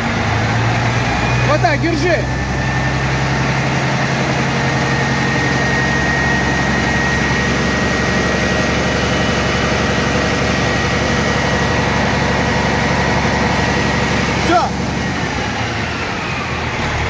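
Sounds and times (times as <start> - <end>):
diesel engine at raised revs: 0.0 - 17.0
thin steady whine: 0.1 - 17.0.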